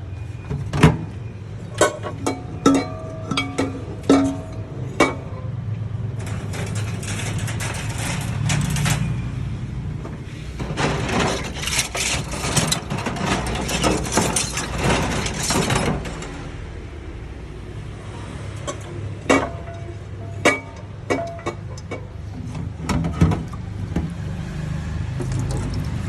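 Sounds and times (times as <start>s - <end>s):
kitchen clattering and scraping: 0.4s - 16.9s, 18.2s - 26.0s.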